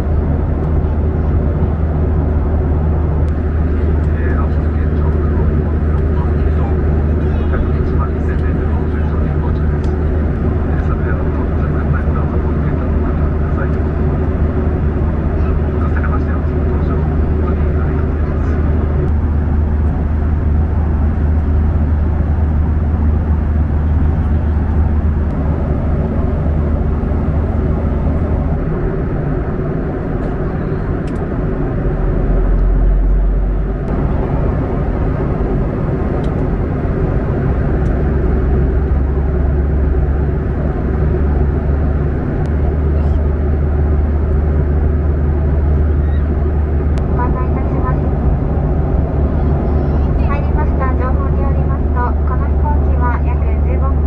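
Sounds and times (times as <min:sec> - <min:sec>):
jet airliner cabin noise: 0:00.0 - 0:54.0.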